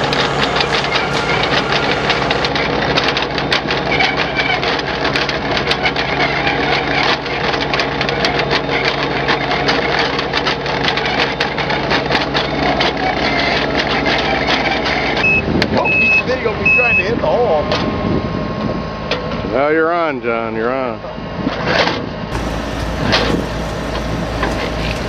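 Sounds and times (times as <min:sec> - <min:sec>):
heavy machinery humming: 0:00.0 - 0:19.0, 0:22.3 - 0:25.0.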